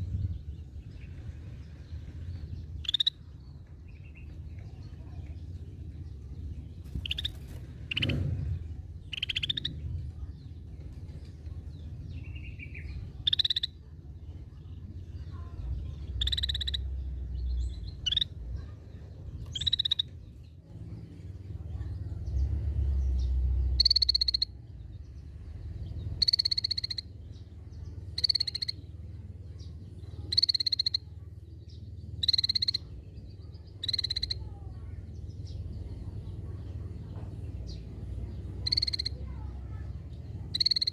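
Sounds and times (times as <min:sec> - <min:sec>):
low background rumble: 0:00.0 - 0:40.9.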